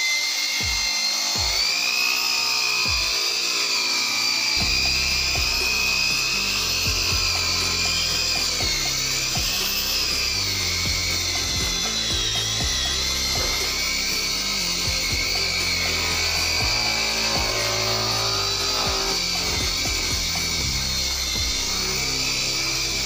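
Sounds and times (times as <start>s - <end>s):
car polisher whining: 0.0s - 23.0s
background music with beat: 0.6s - 1.7s, 2.8s - 3.3s, 4.6s - 23.0s.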